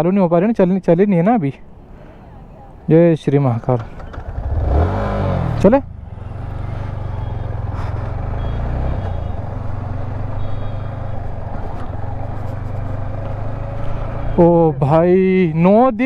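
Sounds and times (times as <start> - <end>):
motorcycle engine running: 1.7 - 14.8.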